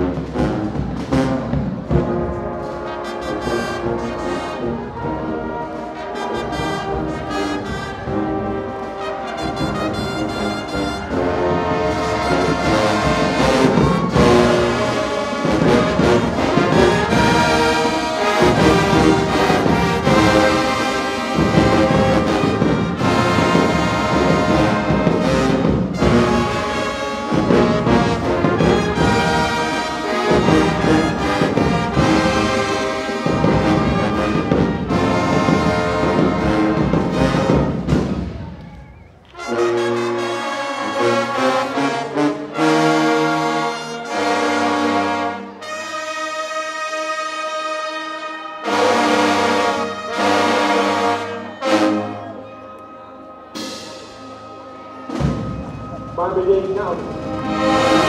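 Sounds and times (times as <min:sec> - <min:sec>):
marching band brass playing: 0:00.0 - 0:58.0.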